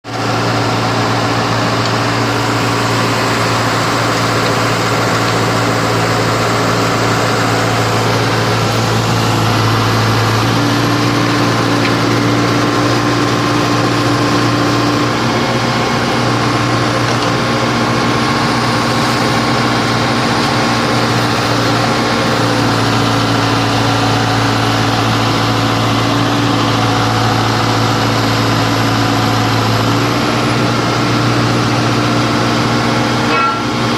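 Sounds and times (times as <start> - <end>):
drill machine engine humming: 0.0 - 33.9.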